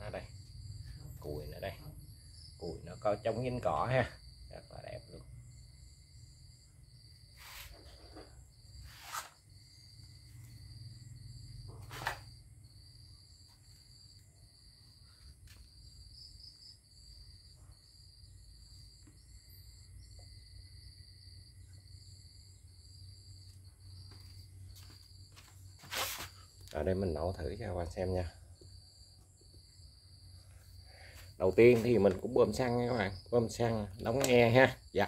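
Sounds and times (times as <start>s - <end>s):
high insect trill: 0.0s - 35.0s.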